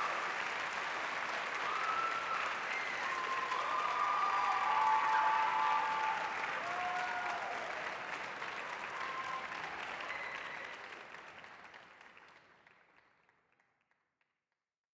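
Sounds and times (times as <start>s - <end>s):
audience applause: 0.0s - 13.1s.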